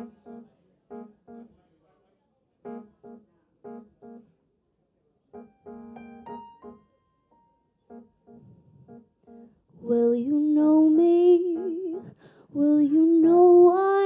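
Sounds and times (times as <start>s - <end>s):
slow piano chords and run: 0.0s - 1.5s, 2.6s - 4.4s, 5.3s - 14.0s.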